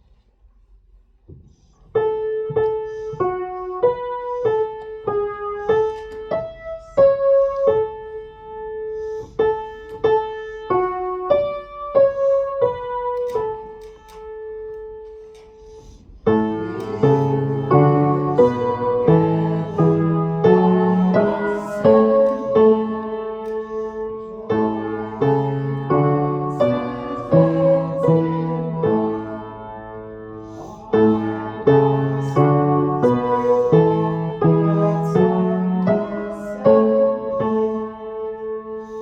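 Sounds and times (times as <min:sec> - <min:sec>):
piano playing hymn melody: 0:01.9 - 0:39.0.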